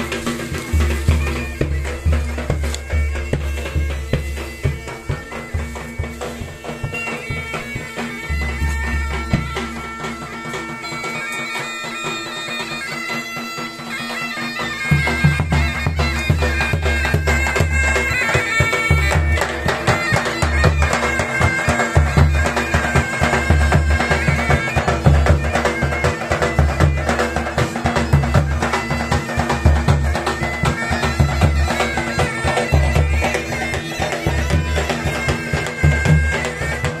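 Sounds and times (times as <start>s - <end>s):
bagpipe drone and melody: 0.0s - 37.0s
drum beating steady rhythm: 0.0s - 37.0s.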